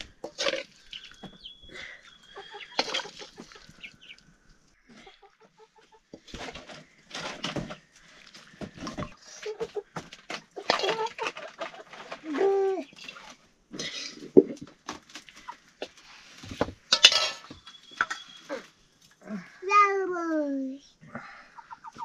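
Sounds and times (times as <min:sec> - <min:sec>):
chickens clucking: 0:00.0 - 0:18.7, 0:21.2 - 0:22.0.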